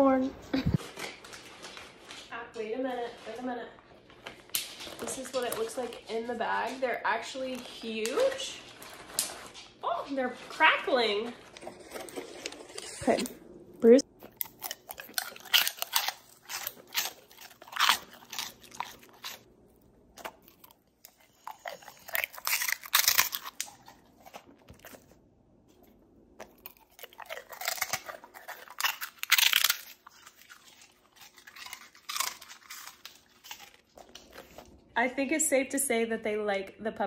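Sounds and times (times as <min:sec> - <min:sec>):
dogs crunching treats: 0:00.0 - 0:13.3, 0:13.9 - 0:34.9.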